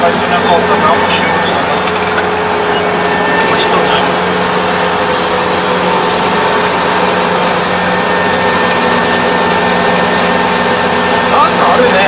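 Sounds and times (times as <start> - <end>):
combine harvester engine drone: 0.0 - 12.0
steady machine whine: 0.0 - 12.0.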